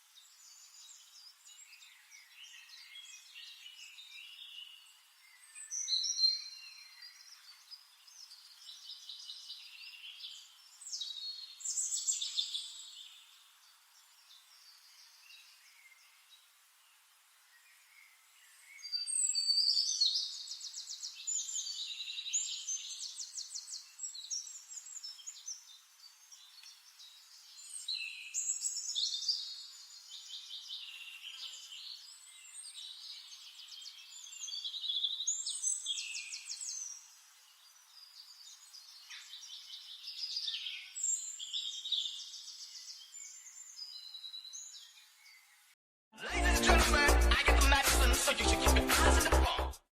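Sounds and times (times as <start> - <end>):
songbirds singing: 0.0 - 45.8.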